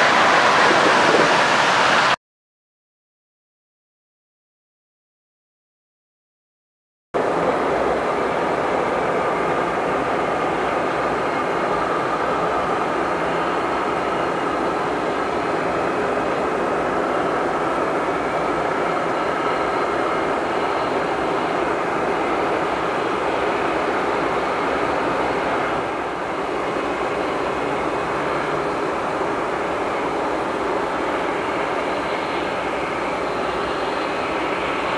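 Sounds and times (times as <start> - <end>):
jet engines running: 0.0 - 2.2, 7.2 - 34.9.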